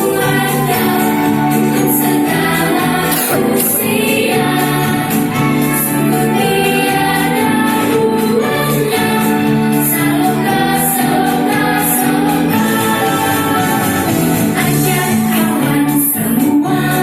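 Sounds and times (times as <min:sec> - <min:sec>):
choir singing long held notes: 0:00.0 - 0:14.9
steady musical accompaniment: 0:00.0 - 0:17.0.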